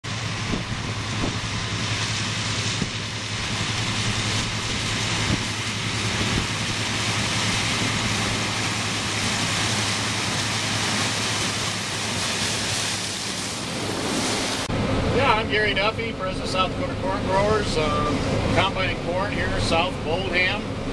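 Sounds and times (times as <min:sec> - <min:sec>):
combine harvester running: 0:00.0 - 0:20.9.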